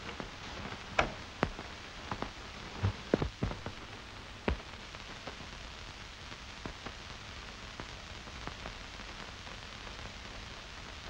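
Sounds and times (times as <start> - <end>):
film soundtrack hiss and crackle: 0.0 - 11.0.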